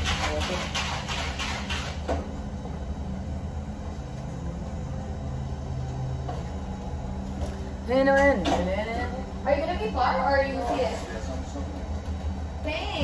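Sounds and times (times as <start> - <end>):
machinery hum and rumble: 0.0 - 13.0.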